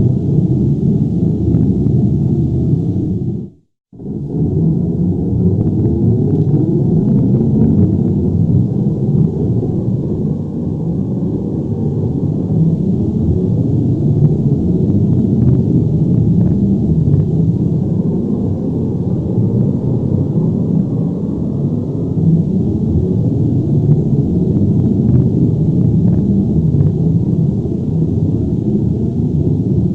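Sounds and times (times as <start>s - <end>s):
deep low rumble: 0.0s - 29.9s.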